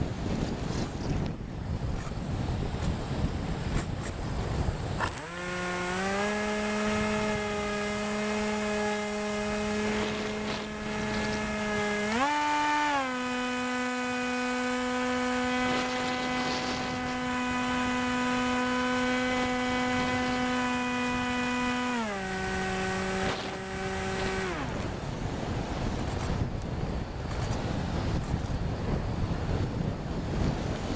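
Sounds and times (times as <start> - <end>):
model airplane motor whining: 2.8 - 28.6.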